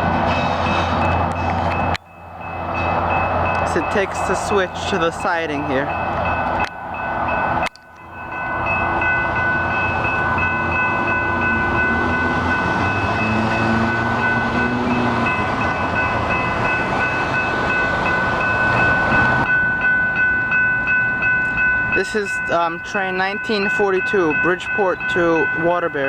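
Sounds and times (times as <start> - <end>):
train rushing past: 0.0 - 25.8
crossing bells ringing: 0.0 - 26.0.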